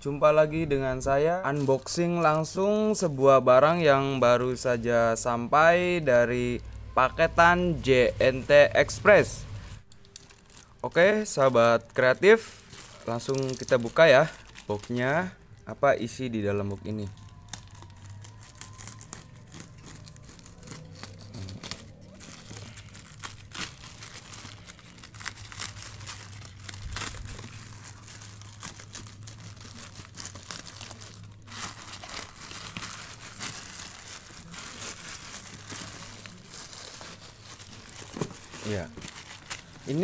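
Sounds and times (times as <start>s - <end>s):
plastic bag crinkling and tearing: 0.9s - 4.7s, 9.8s - 40.0s.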